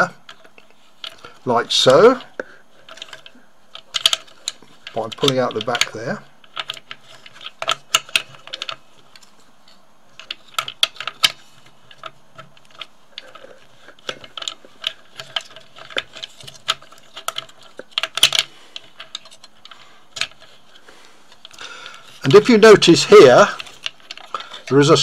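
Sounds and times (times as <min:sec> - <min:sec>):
plastic parts clicking: 0:00.0 - 0:25.0.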